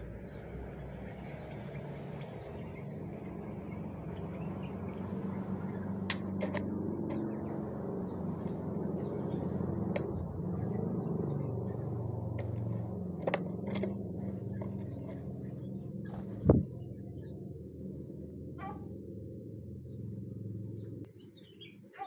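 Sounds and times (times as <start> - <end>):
steady low hum: 0.0 - 21.2.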